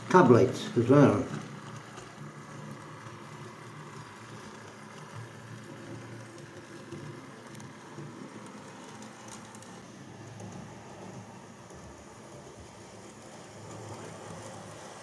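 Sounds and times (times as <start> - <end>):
model train rumbling on rails: 0.0 - 15.0.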